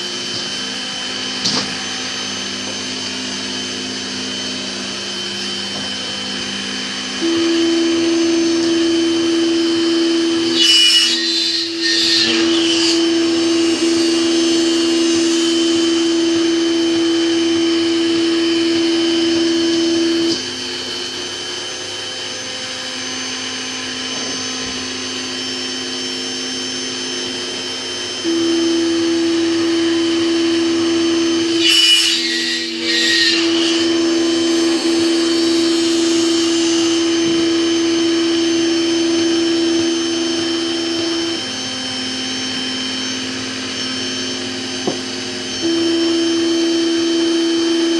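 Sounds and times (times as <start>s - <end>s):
mini mill whining: 0.0s - 47.9s.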